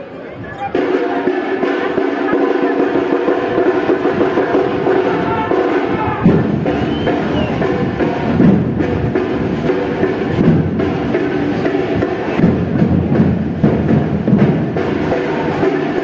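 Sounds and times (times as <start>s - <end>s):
pitched instruments: 0.0s - 16.0s
low drum beats: 0.4s - 16.0s.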